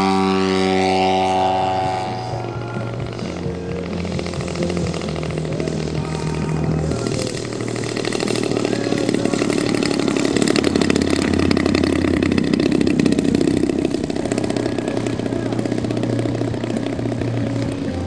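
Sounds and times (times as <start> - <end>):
model plane engine running: 0.0 - 18.0.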